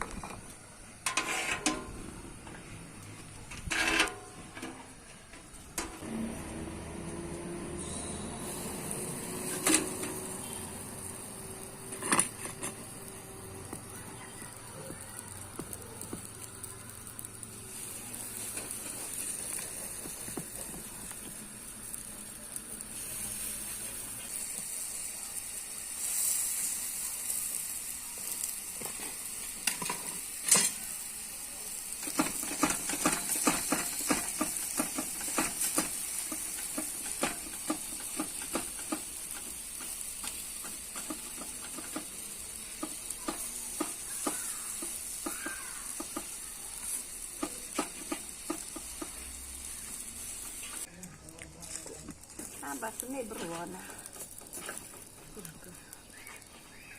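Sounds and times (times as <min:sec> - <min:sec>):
bread sizzling on a metal pan: 0:00.0 - 0:56.9.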